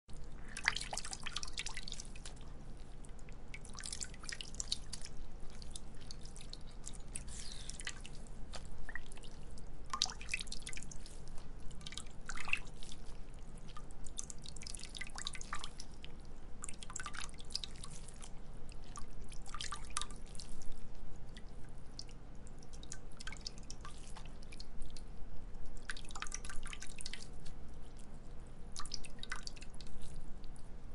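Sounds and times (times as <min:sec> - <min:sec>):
water dripping and splashing: 0:00.1 - 0:25.1, 0:25.7 - 0:27.6, 0:28.7 - 0:30.7.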